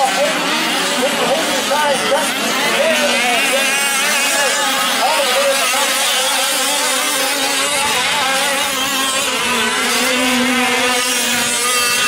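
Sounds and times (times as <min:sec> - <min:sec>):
small two-stroke engines buzzing: 0:00.0 - 0:12.0.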